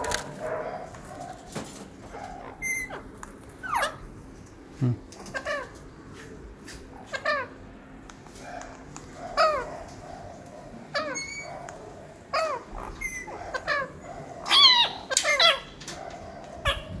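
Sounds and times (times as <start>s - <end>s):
parrots squawking: 0.0s - 4.1s, 5.2s - 5.8s, 7.0s - 7.6s, 8.5s - 17.0s.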